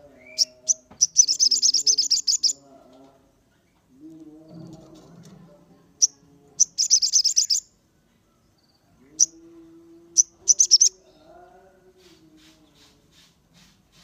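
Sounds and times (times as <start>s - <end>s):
songbird chirping: 0.0s - 13.3s.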